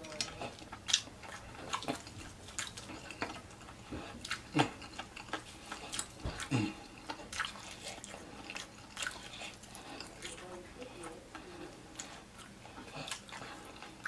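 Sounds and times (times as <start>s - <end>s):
man chewing food: 0.0s - 14.0s.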